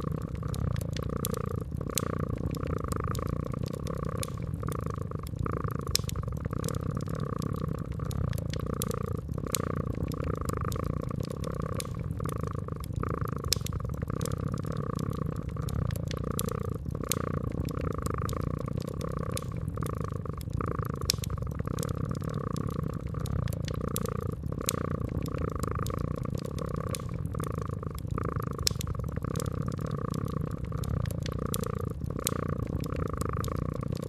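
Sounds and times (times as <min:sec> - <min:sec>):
cat purring: 0:00.0 - 0:34.0
wood fire crackling and popping: 0:00.0 - 0:34.0.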